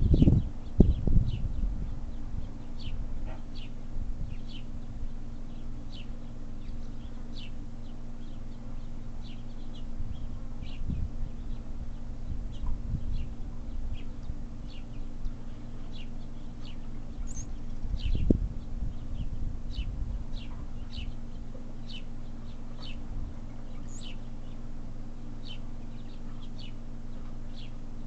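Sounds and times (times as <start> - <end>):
low hum and rumble: 0.0 - 28.0
small birds chirping: 0.0 - 28.0.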